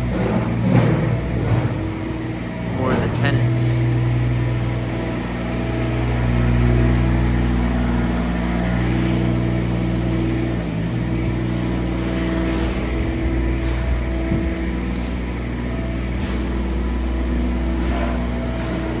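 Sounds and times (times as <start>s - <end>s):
construction machinery engine running: 0.0s - 19.0s.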